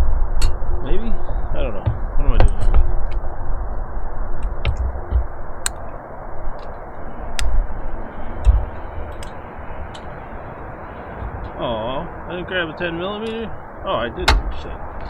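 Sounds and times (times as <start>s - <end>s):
background hiss: 0.0s - 15.0s
dull low knocks: 1.2s - 15.0s.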